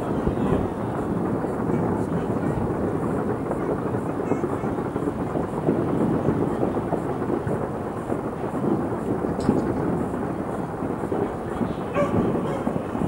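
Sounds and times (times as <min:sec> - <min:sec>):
distant fireworks rumble: 0:00.0 - 0:13.0
sharp firework crack: 0:00.0 - 0:13.0.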